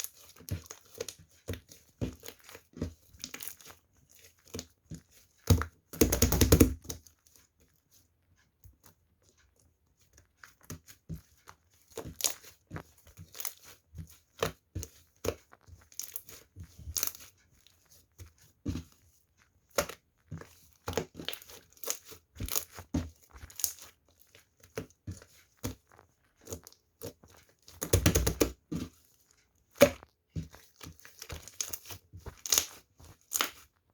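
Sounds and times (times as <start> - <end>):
slime squishing by hand: 0.0 - 8.0, 8.7 - 33.9.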